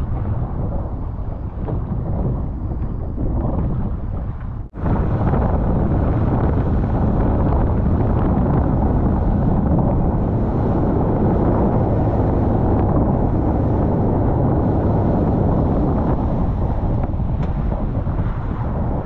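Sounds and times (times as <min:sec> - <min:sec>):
boat engine running: 0:00.0 - 0:19.0
water noise: 0:00.0 - 0:19.0
wind buffeting microphone: 0:00.0 - 0:19.0.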